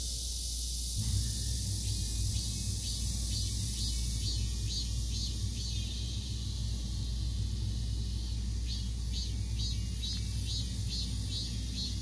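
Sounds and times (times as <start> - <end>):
cicadas hissing: 0.0 - 12.0
cicadas pulsing buzz: 0.0 - 12.0
low rumble: 0.2 - 10.9.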